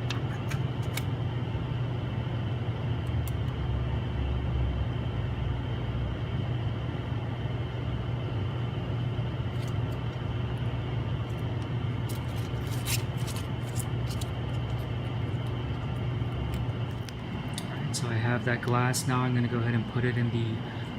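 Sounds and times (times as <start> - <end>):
low electric machine hum: 0.0 - 20.9.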